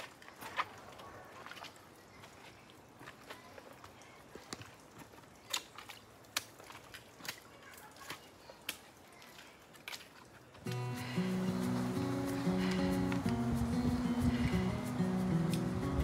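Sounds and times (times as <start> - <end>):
boots stepping on rock and dirt: 0.0 - 16.0.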